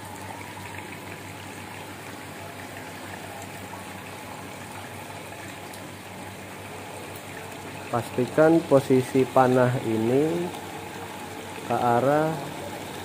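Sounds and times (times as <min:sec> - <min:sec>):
water rushing through filter tank: 0:00.0 - 0:13.0.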